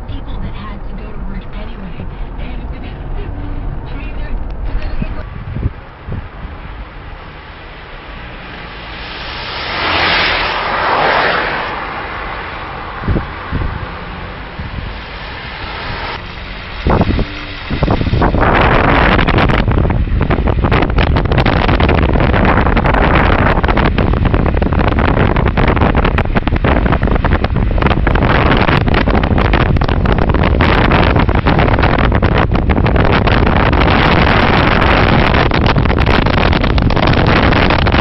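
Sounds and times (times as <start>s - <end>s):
car driving rumble: 0.0s - 38.0s
wind buffeting microphone: 0.0s - 38.0s.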